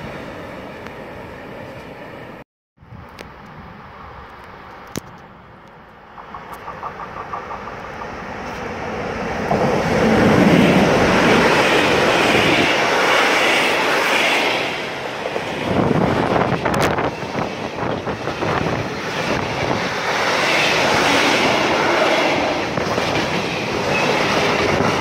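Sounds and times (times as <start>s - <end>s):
freight train passing: 0.0s - 2.4s, 3.0s - 25.0s.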